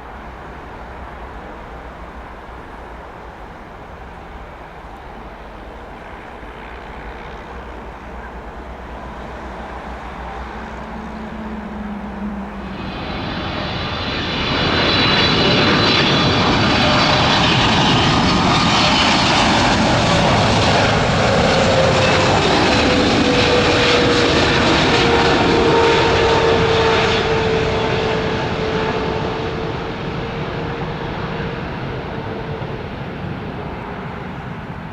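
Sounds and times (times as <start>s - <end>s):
jet engines of landing airliner: 0.0s - 34.9s.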